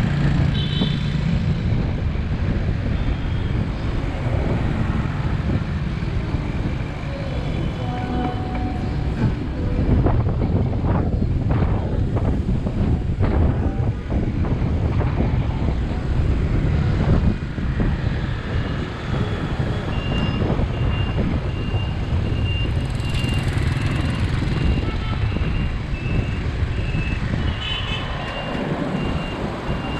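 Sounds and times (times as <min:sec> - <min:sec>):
bicycle road noise: 0:00.0 - 0:29.9
wind rumble on microphone: 0:00.0 - 0:29.9.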